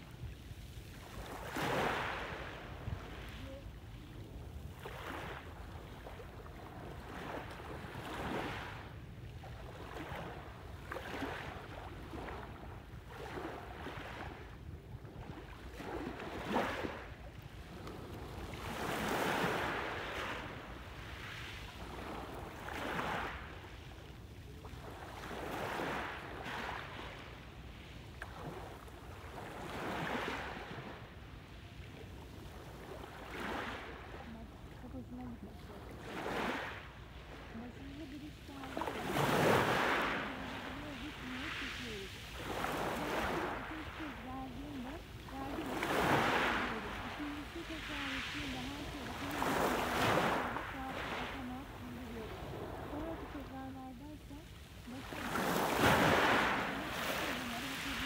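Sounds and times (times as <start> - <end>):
small waves on pebble beach: 0.0 - 58.0.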